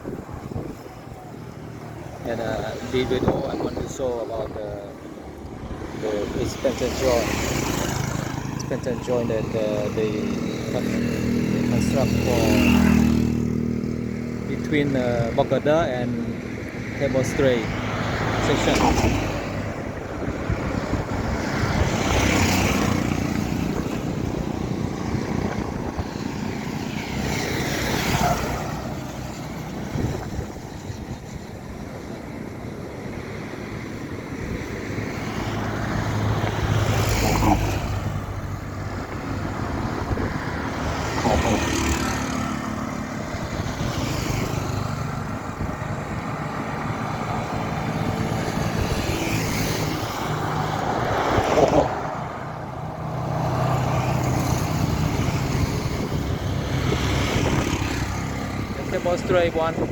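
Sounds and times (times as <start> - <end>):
traffic rumble: 0.0 - 59.9
vehicles rushing by: 0.0 - 59.9.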